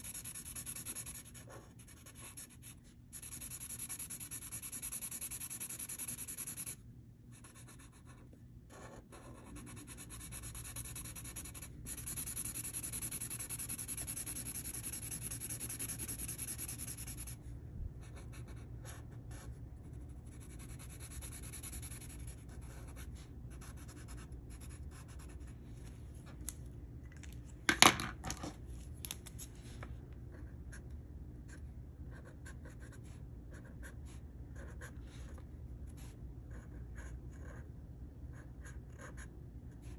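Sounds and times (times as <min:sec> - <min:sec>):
marker scratching on paper: 0:00.0 - 0:17.4, 0:18.0 - 0:25.5, 0:31.5 - 0:37.7, 0:38.3 - 0:39.9.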